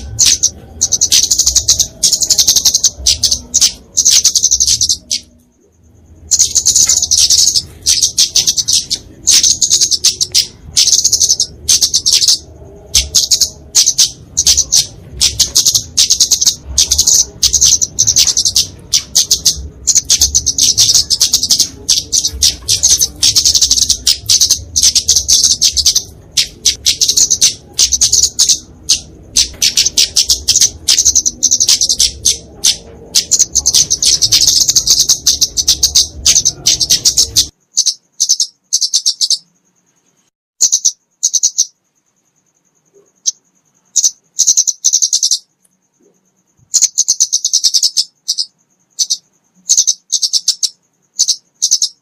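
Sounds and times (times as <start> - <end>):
bird rapid ticking calls: 0.0 - 52.0.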